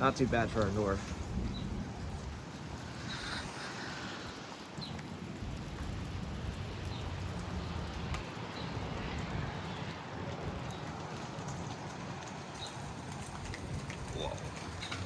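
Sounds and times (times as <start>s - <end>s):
rain falling: 0.0s - 15.0s
wind rumbling on microphone: 0.0s - 15.0s.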